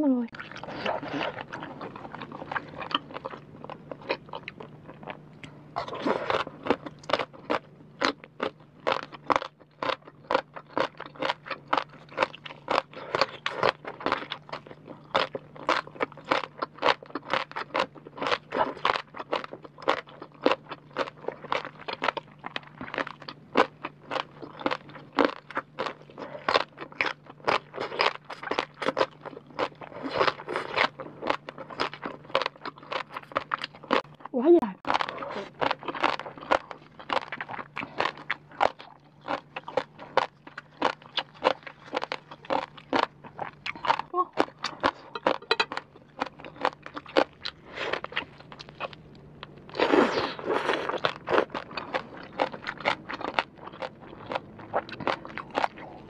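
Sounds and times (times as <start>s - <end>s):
crisp crunching while chewing: 0.3s - 56.0s.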